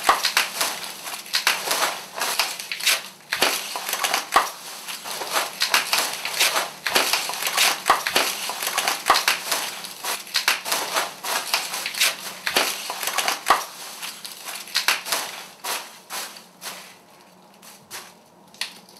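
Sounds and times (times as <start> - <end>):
dense irregular crunching and crackling: 0.0 - 18.9.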